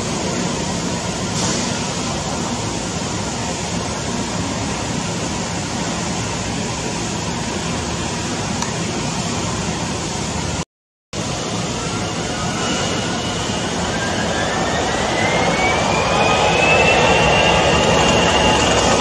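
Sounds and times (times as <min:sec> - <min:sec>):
jet engines at taxi thrust: 0:00.0 - 0:10.6, 0:11.2 - 0:19.0.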